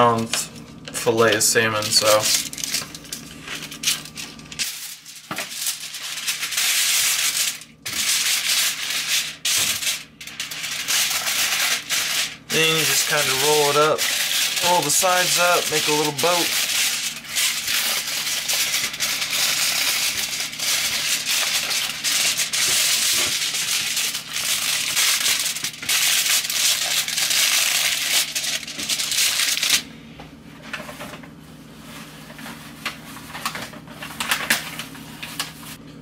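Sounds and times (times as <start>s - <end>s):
aluminium foil crinkling: 1.2s - 29.9s, 31.9s - 35.8s.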